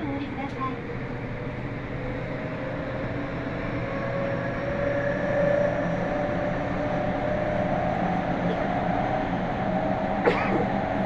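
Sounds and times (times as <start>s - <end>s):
electric train motor whine: 0.0s - 11.0s
rail running noise: 0.0s - 11.0s.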